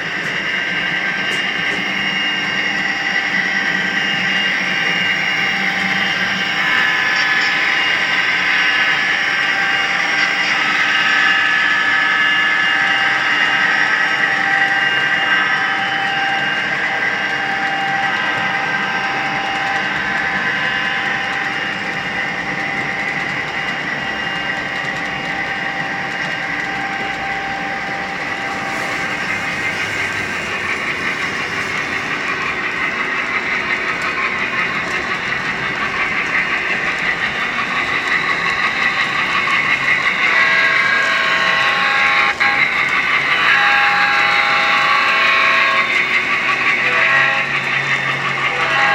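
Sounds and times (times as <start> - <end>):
model train running: 0.0 - 48.9.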